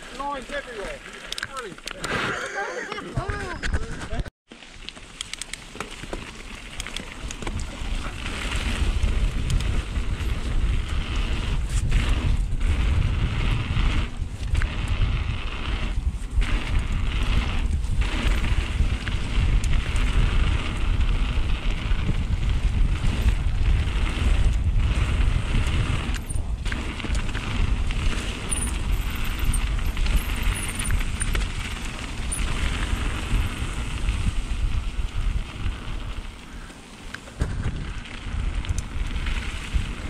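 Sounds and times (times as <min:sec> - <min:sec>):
bike tyres hissing over trail: 0:00.0 - 0:02.9, 0:04.5 - 0:40.0
wind buffeting microphone: 0:07.1 - 0:40.0.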